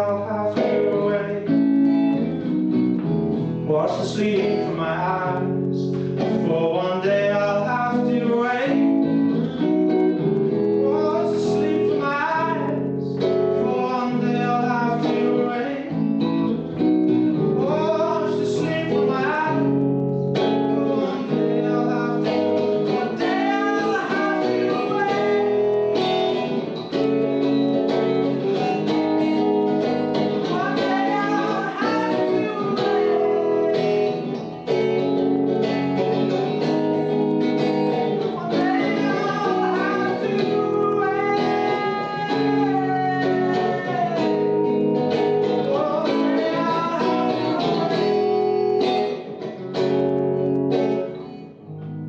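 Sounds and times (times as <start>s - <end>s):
person singing: 0.0s - 51.6s
acoustic guitar: 0.0s - 52.0s.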